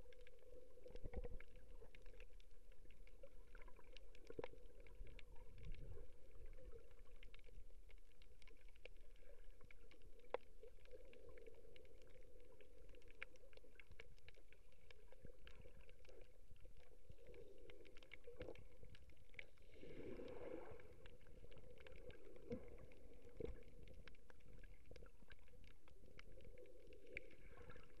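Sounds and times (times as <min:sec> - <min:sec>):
underwater rumble of sea water: 0:00.0 - 0:28.0
water rush and bubbles: 0:00.0 - 0:28.0.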